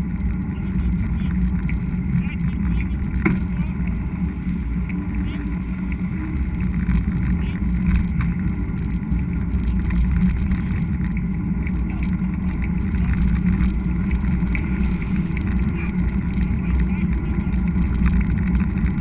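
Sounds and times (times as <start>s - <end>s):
bike tyres rolling on trail: 0.0s - 19.0s
wind on camera: 0.0s - 19.0s.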